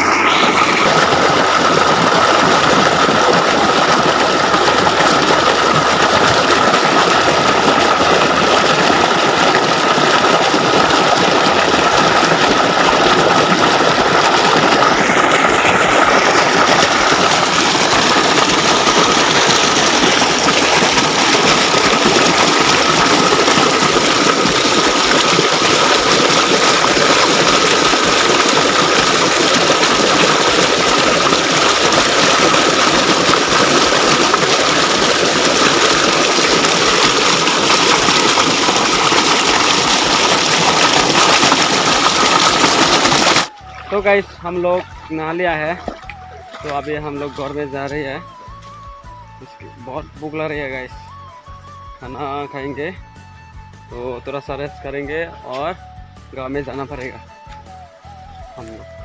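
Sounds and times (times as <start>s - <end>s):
river water gushing over rock: 0.0s - 48.2s.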